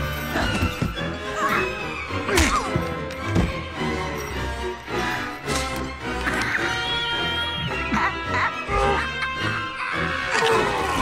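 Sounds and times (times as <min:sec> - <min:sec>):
film score music: 0:00.0 - 0:11.0.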